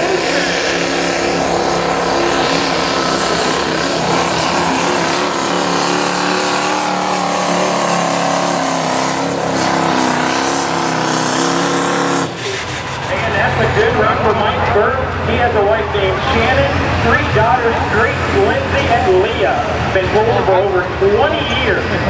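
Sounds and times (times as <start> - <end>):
diesel truck engine revving hard: 0.0 - 22.0.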